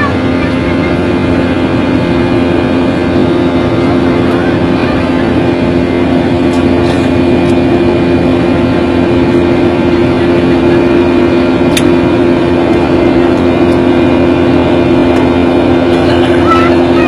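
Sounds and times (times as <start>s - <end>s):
airliner engines in flight: 0.0s - 17.0s.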